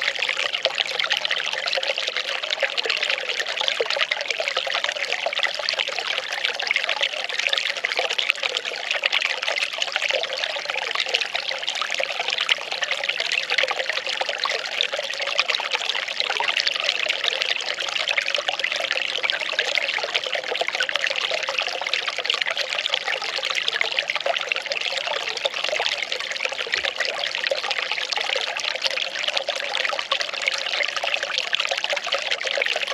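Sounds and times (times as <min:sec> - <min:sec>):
water pouring and trickling: 0:00.0 - 0:32.9.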